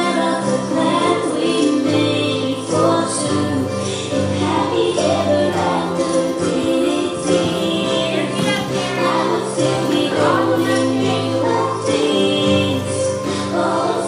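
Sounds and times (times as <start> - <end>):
choir singing with accompaniment: 0.0 - 14.0.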